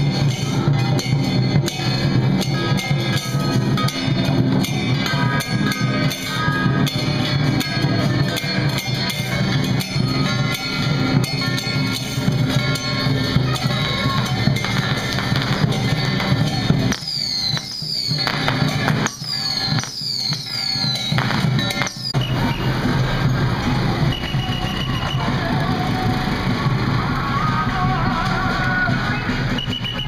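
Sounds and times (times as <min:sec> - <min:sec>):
barrel drum beating: 0:00.0 - 0:30.0
metal percussion: 0:00.0 - 0:30.0.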